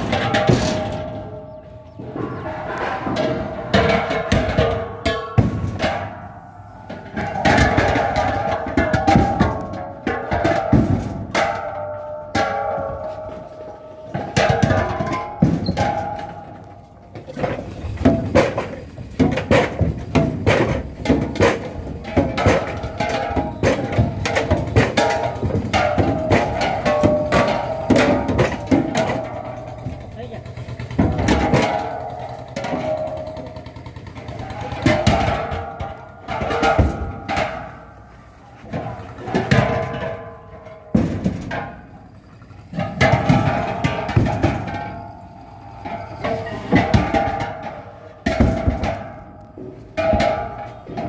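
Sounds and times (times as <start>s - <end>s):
gas cylinders clanking: 0.0s - 51.0s.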